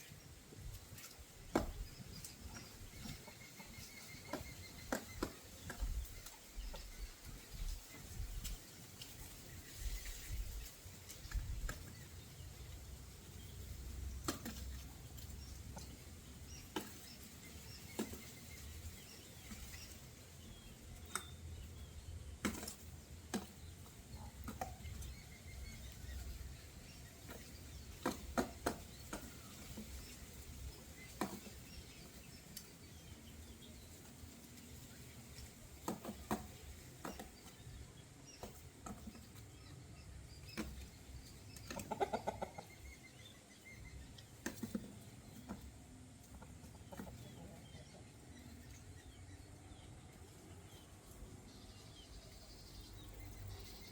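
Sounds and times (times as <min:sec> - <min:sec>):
bird feet and beaks tapping: 0:00.0 - 0:12.7, 0:13.4 - 0:47.9.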